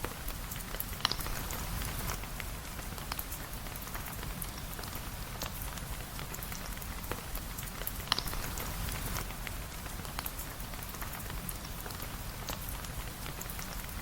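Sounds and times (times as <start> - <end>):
sharp ticks of raindrops: 0.0 - 14.0
steady rain: 0.0 - 14.0.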